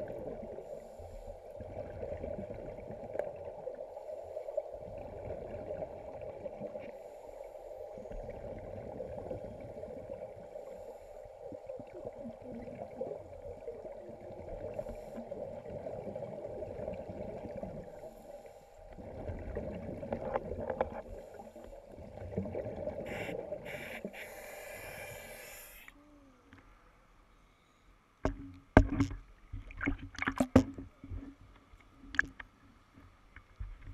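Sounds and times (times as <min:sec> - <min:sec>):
underwater bubbles gurgling: 0:00.0 - 0:26.8, 0:28.3 - 0:31.4.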